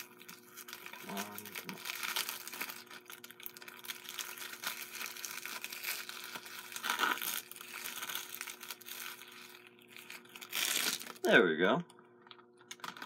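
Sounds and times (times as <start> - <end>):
plastic shrink-wrap crinkling: 0.0 - 11.3, 12.3 - 13.0.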